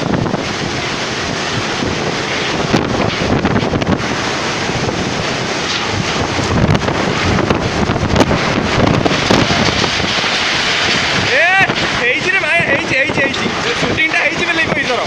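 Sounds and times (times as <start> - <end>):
storm wind and heavy rain: 0.0 - 15.0
wind buffeting microphone: 0.0 - 15.0.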